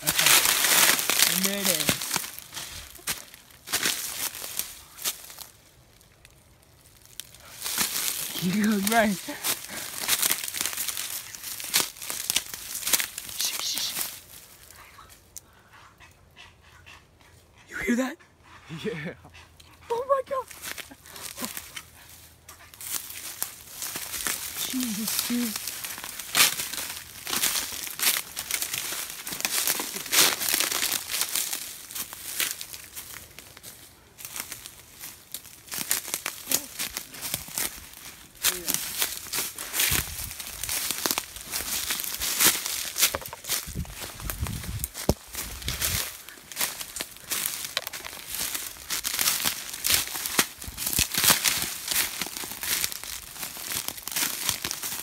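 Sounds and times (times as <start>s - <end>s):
footsteps crunching dry leaves: 0.0s - 14.7s, 20.5s - 55.0s.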